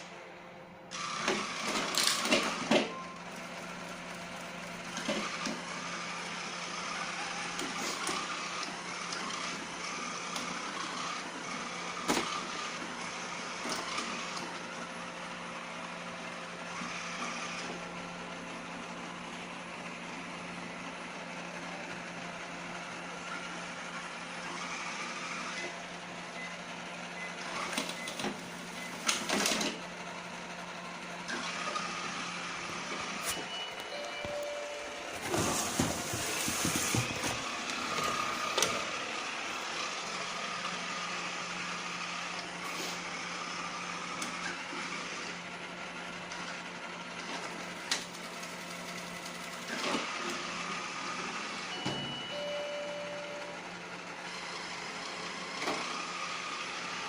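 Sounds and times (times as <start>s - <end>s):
robot vacuum running: 0.9s - 57.0s.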